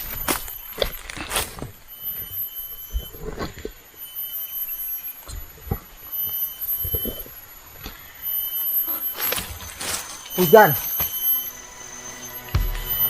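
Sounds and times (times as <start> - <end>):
forest insects whining: 0.0 - 13.0
high insect tone: 0.0 - 13.0.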